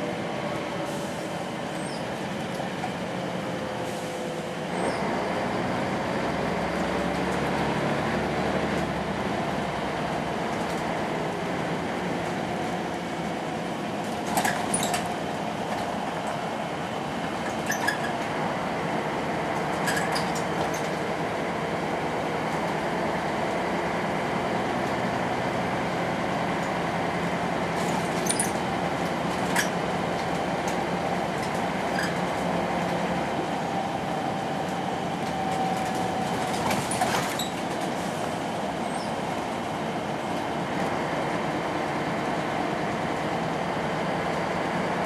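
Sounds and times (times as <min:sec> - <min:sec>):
bus diesel engine running: 0:00.0 - 0:45.0
road and tyre noise: 0:00.0 - 0:45.0.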